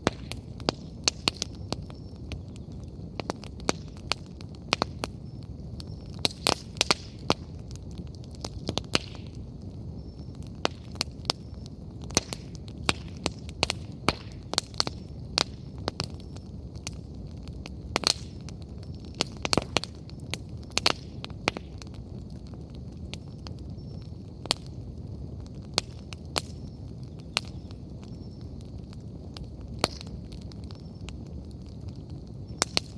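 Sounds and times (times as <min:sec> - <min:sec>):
firewood crackling and popping: 0:00.0 - 0:32.9
low rush of flames: 0:00.0 - 0:32.9.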